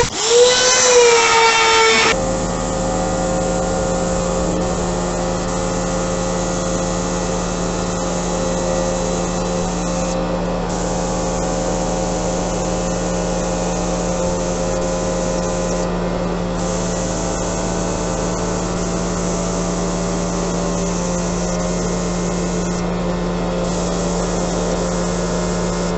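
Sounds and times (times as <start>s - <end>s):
motor hum: 0.0s - 25.9s
paint spray gun hissing: 0.0s - 25.9s.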